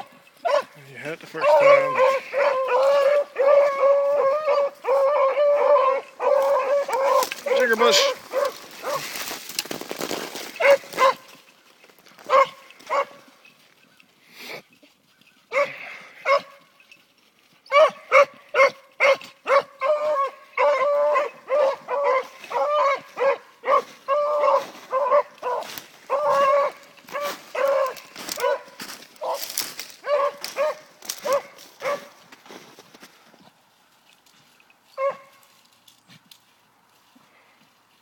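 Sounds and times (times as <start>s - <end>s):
hound baying: 0.0s - 9.3s, 9.9s - 11.5s, 12.1s - 14.0s, 14.8s - 32.3s, 34.9s - 35.5s.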